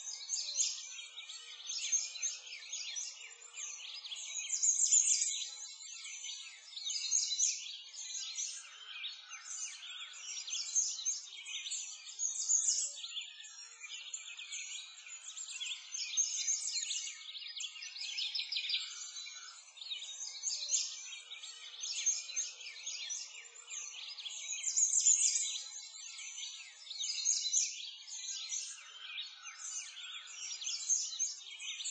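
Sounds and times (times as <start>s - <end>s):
small birds chirping and trilling: 0.0s - 31.9s.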